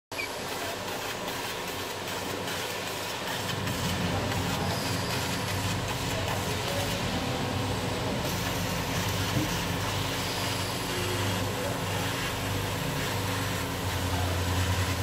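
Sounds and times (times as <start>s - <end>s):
laser cutter rushing noise: 0.1s - 15.0s.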